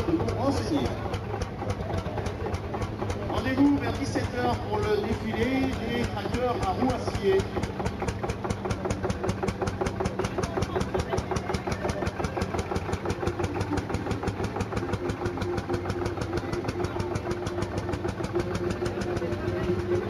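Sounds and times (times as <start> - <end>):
tractor engine thumping: 0.0 - 20.0.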